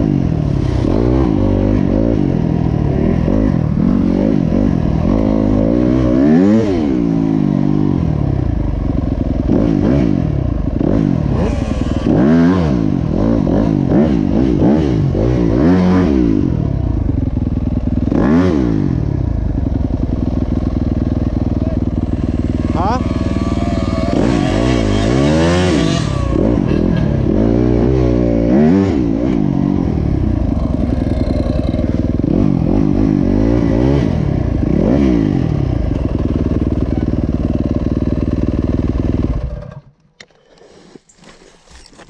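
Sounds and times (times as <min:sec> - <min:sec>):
motocross bike engine revving: 0:00.0 - 0:40.6.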